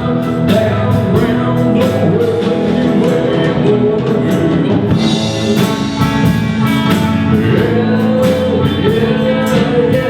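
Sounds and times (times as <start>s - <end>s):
drums steady beat: 0.0s - 10.0s
live rock band playing: 0.0s - 10.0s.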